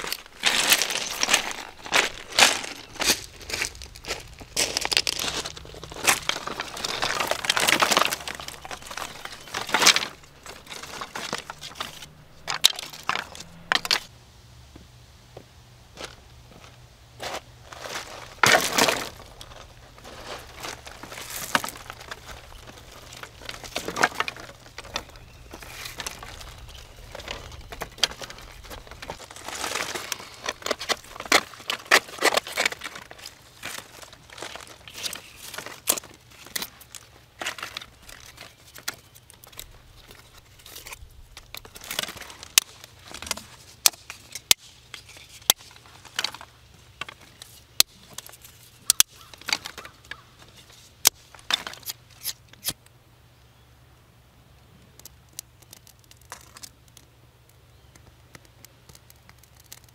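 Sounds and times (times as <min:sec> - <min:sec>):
birch bark peeling and tearing: 0:00.0 - 0:14.1, 0:18.1 - 0:52.8, 0:55.0 - 0:57.1, 0:58.0 - 0:59.9.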